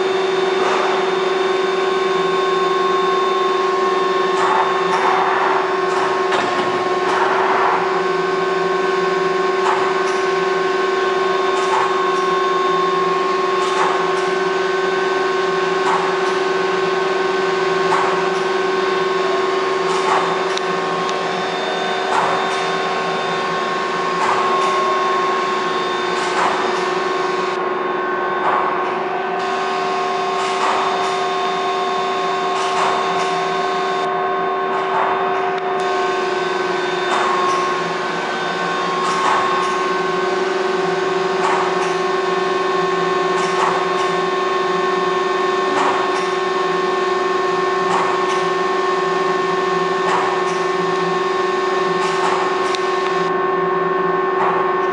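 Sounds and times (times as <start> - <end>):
lathe mechanical whine: 0.0 - 54.9.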